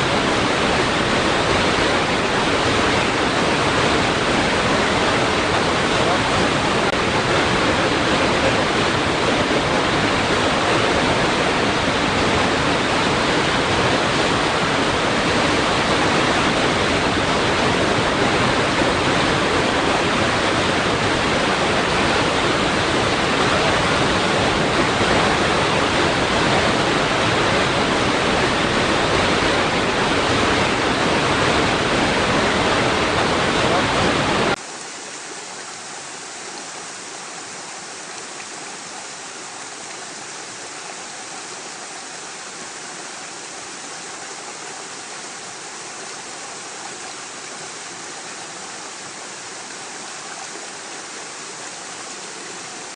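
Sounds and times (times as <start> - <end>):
water rushing against rocks: 0.0 - 52.9.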